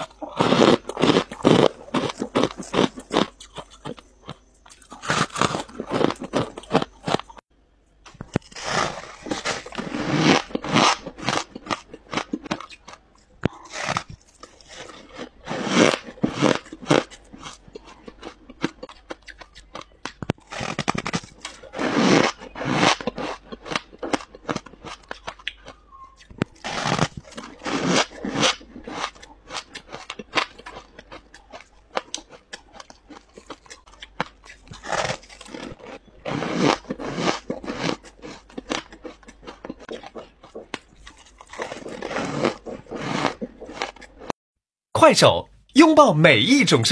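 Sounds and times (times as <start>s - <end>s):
crunchy biting of frost: 0.0s - 7.4s, 8.1s - 44.3s
quiet chewing: 0.0s - 44.3s.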